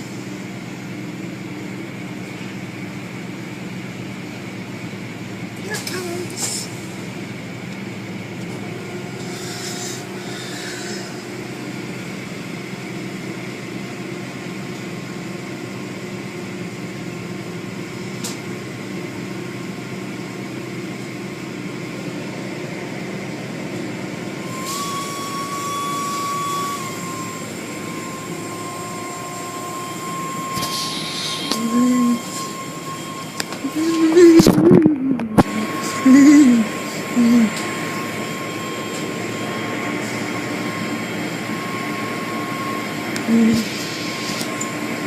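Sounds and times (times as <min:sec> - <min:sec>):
car wash machinery humming: 0:00.0 - 0:45.0
steady whine: 0:00.0 - 0:45.0.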